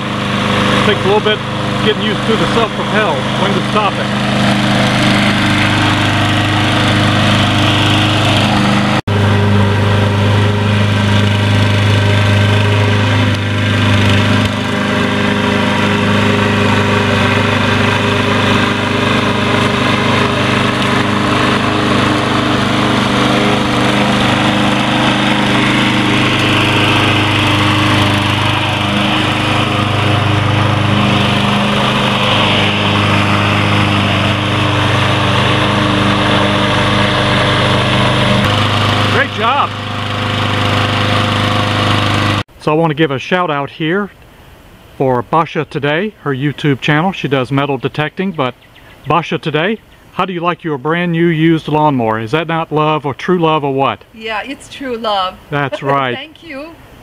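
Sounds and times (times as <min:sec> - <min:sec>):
lawn mower mowing grass: 0:00.0 - 0:42.7, 0:45.9 - 0:57.0.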